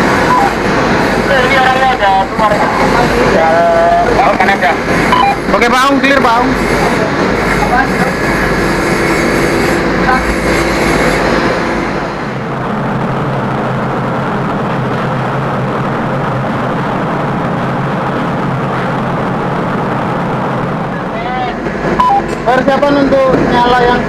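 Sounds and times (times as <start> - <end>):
ventilation fan and machinery: 0.0 - 24.0.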